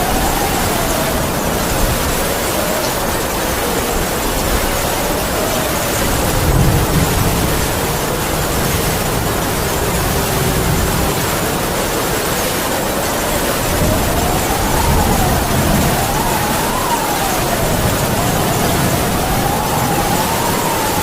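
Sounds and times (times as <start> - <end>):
heavy rain: 0.0 - 21.0
wind howling: 0.0 - 21.0.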